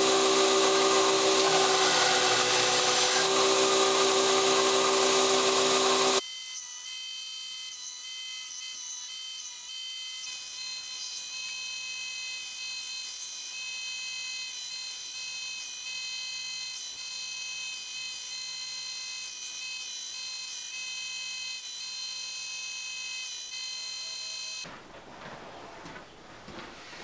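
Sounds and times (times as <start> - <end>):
belt grinder grinding steel blade: 0.0 - 24.7.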